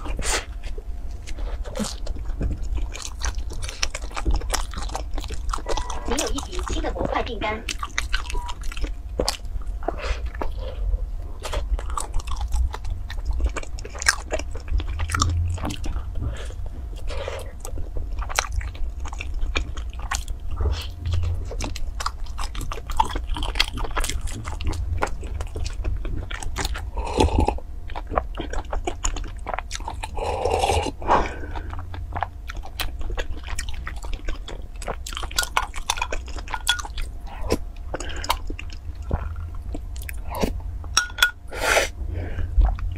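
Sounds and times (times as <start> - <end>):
biting and chewing: 0.0 - 41.4
steady low hum: 0.0 - 42.9.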